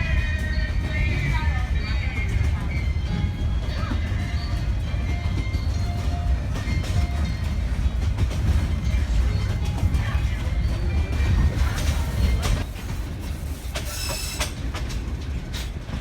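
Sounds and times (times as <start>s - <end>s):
train knocks: 0.0s - 16.0s
train rumbling on track: 0.0s - 16.0s.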